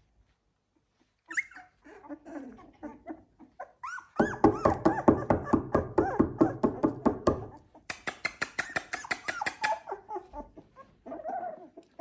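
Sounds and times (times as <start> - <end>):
puppies whimpering and squeaking: 0.8 - 12.0.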